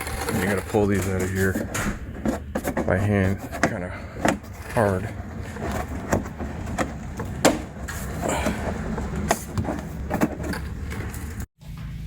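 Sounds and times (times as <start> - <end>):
plastic scraping: 0.0 - 11.5.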